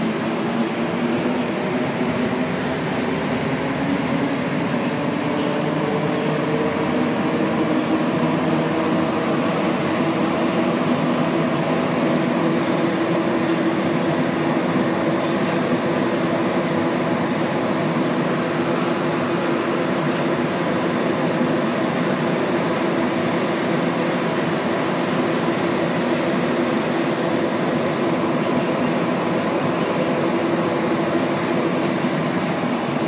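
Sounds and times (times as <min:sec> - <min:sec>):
train running at speed: 0:00.0 - 0:33.0.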